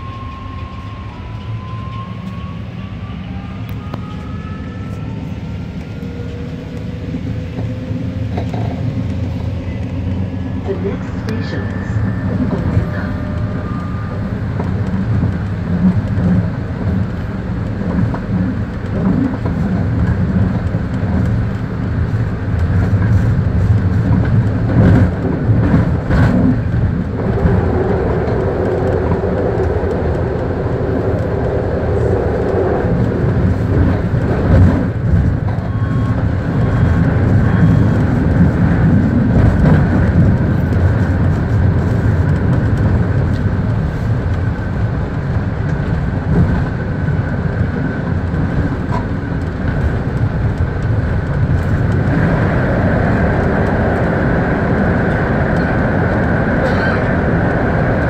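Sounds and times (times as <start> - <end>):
high whine: 0.0 - 58.0
train wheels rumbling on rail: 0.0 - 58.0.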